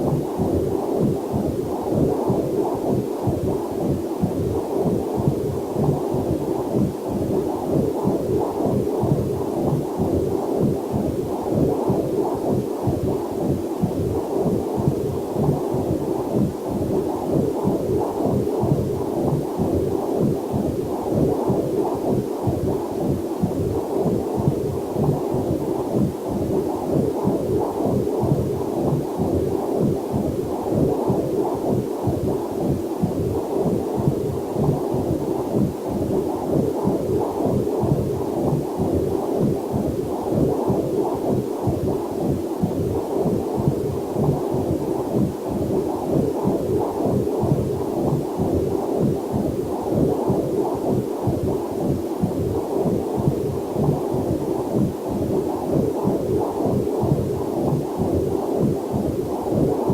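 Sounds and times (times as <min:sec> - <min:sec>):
whooshing heartbeat pulses: 0:00.0 - 0:59.9.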